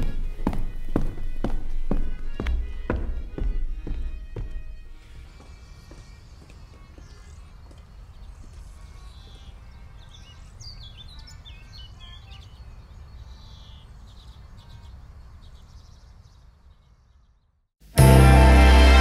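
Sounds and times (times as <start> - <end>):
birds chirping: 0.0 - 17.6.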